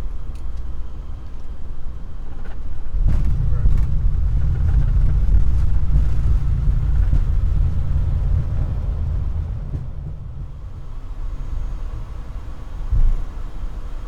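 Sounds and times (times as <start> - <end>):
jet airliner low rumble: 0.0 - 14.0.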